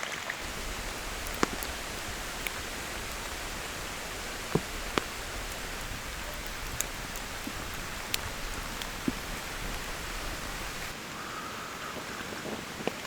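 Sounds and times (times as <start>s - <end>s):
heavy drops ticking: 0.4s - 11.0s
steady rain falling: 0.4s - 11.0s.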